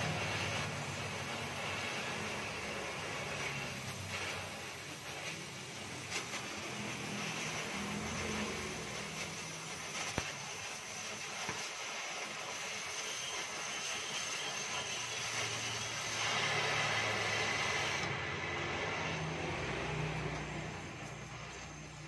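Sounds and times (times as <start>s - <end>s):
welding torch flame hissing: 0.0s - 22.0s.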